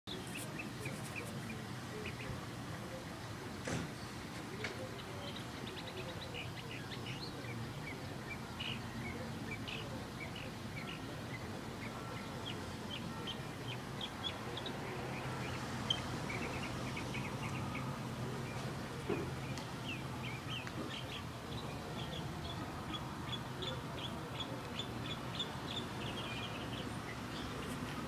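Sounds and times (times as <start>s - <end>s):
small birds chirping: 0.1s - 3.0s, 3.9s - 28.0s.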